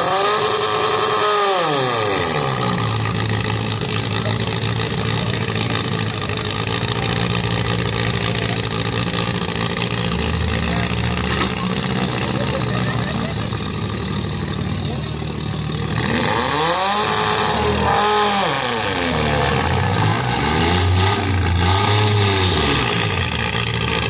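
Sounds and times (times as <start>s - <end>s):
car engines revving and droning: 0.0s - 24.0s.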